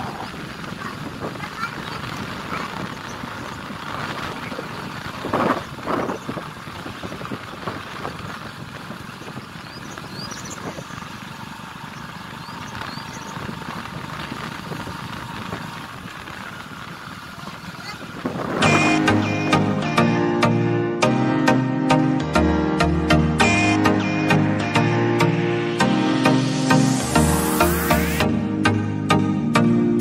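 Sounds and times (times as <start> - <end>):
motorcycle engine running: 0.0 - 28.9
road and wind noise: 0.0 - 30.0.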